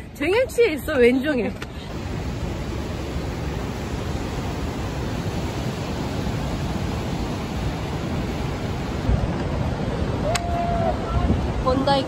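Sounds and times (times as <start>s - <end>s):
ocean surf breaking: 1.8s - 12.0s
wind buffeting microphone: 1.9s - 12.0s.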